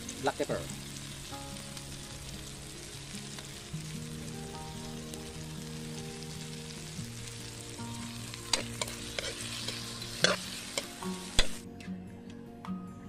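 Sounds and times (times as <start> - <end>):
food sizzling in a wok: 0.0 - 11.6.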